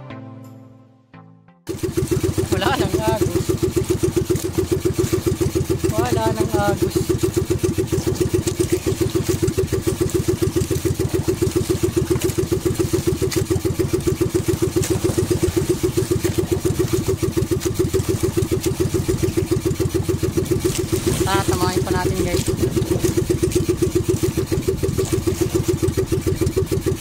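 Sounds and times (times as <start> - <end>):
boat engine running: 1.7 - 27.0.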